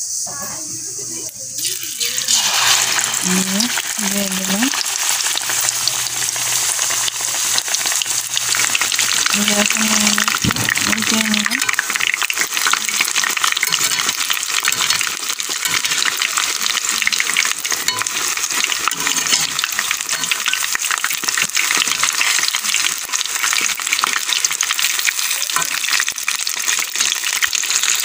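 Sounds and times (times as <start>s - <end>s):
fritters deep-frying in oil: 0.3s - 28.0s
spatula stirring in oil: 1.6s - 28.0s.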